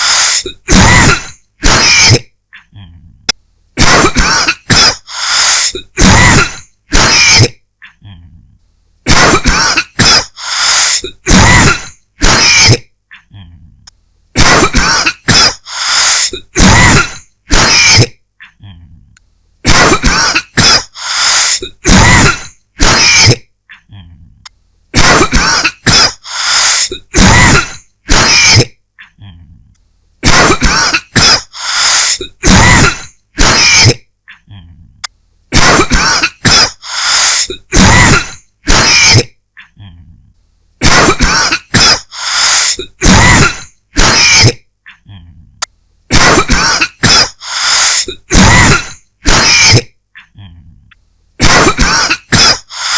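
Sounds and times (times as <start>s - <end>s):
person coughing: 0.0s - 3.0s, 3.8s - 8.2s, 9.1s - 13.2s, 14.4s - 18.8s, 19.7s - 24.1s, 25.0s - 29.4s, 30.2s - 34.7s, 35.5s - 39.9s, 40.8s - 45.2s, 46.1s - 50.5s, 51.4s - 52.9s.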